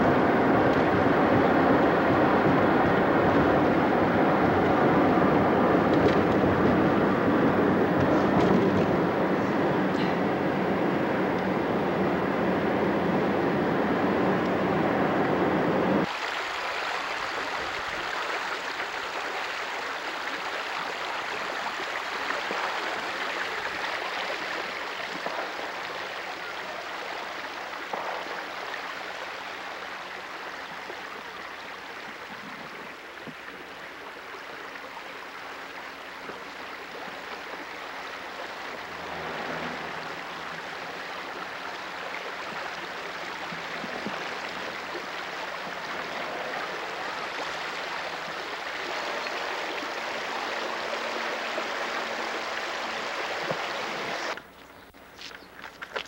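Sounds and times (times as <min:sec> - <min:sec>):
stream water rushing: 0:00.0 - 0:54.4.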